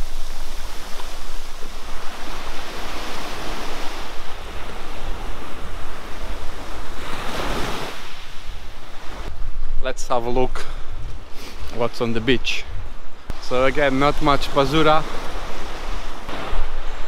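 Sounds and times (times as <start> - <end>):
sea waves breaking: 0.0 - 9.8, 10.4 - 17.0
wind on microphone: 0.0 - 17.0.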